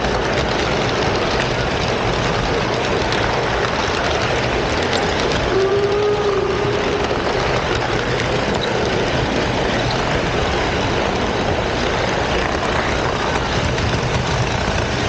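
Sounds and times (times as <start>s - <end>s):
model train wheels rumbling: 0.0s - 15.0s
train motor drone: 0.0s - 15.0s.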